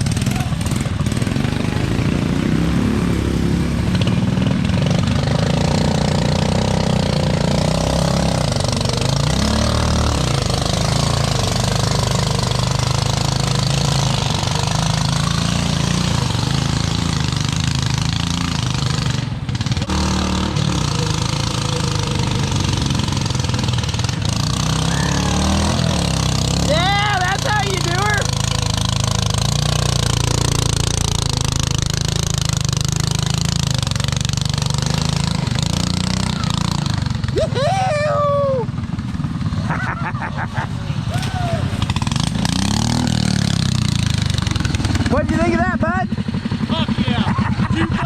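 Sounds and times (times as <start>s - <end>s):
tractor engine under load: 0.0s - 37.6s, 38.7s - 48.0s.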